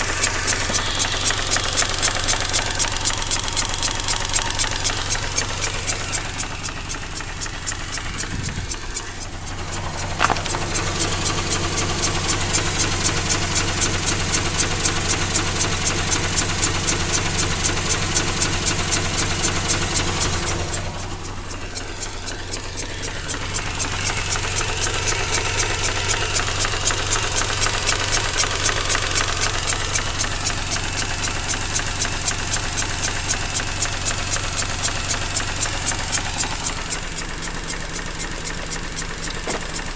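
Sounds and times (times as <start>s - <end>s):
rotary engine idling roughly: 0.0s - 39.9s
valve ticking: 0.0s - 39.9s.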